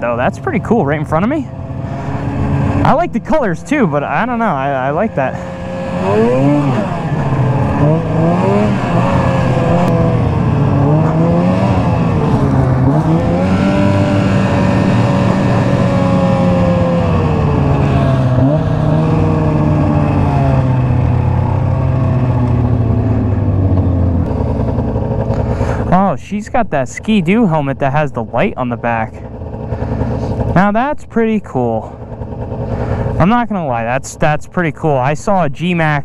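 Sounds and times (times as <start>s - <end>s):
snowmobile engine running: 0.0s - 36.0s.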